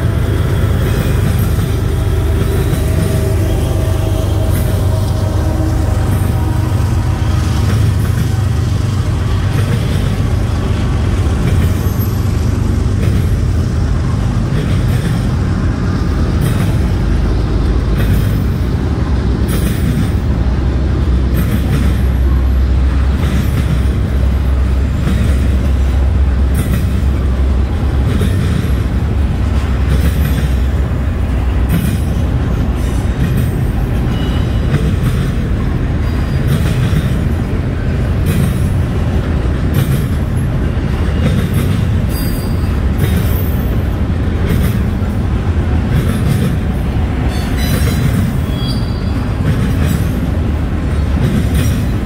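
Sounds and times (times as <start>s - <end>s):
freight train rumbling: 0.0s - 52.0s
train clicks and rattles: 0.0s - 52.0s.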